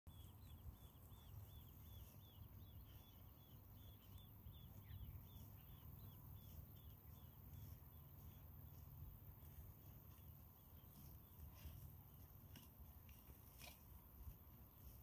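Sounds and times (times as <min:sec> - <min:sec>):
small bird chirping: 0:00.1 - 0:15.0.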